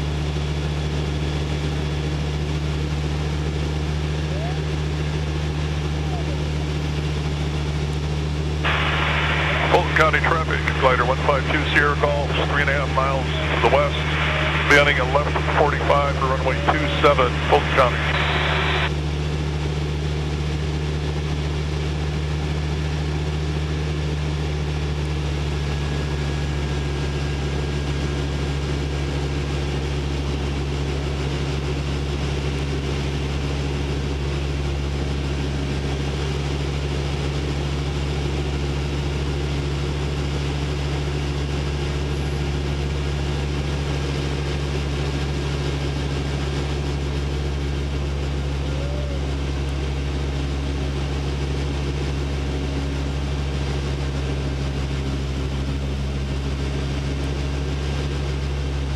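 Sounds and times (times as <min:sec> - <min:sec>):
small aircraft engine droning: 0:00.0 - 0:58.9.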